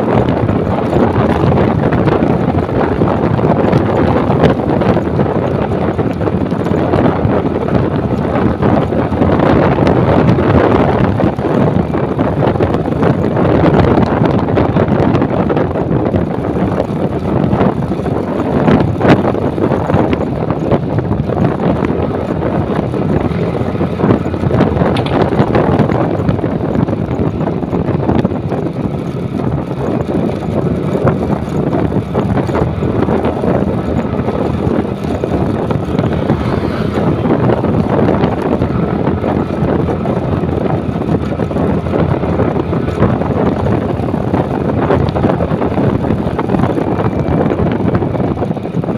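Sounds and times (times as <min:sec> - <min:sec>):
motorcycle road and engine noise: 0:00.0 - 0:48.9
wind rushing over microphone: 0:00.0 - 0:48.9.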